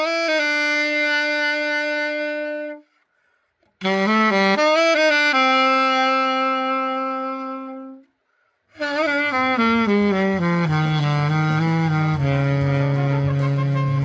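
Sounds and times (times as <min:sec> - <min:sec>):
solo saxophone: 0:00.0 - 0:14.0.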